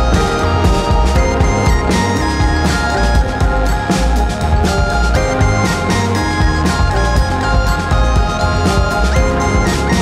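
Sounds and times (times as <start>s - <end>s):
upbeat music with synth tones: 0.0s - 10.0s.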